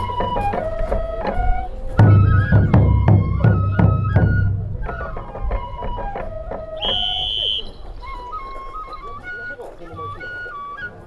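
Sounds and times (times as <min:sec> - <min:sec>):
regular drum beats: 0:00.0 - 0:10.3
transverse flute melody: 0:00.0 - 0:11.0.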